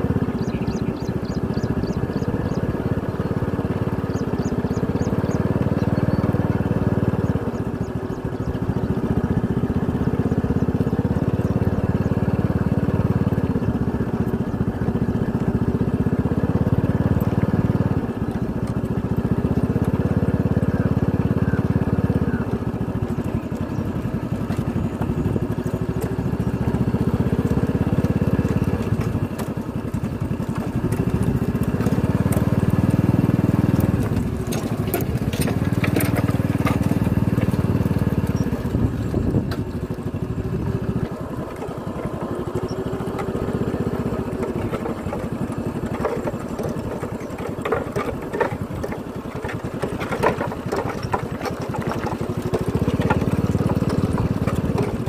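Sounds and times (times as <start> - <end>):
motorcycle engine running: 0.0 - 55.0
sharp clicks and rattles: 0.1 - 55.0.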